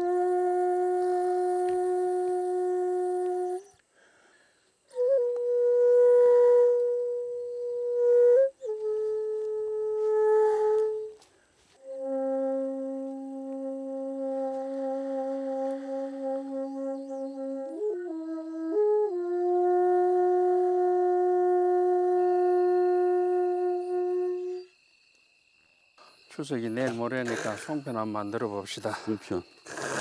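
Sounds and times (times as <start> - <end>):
bamboo flute slow melody: 0.0 - 4.1, 4.8 - 25.2.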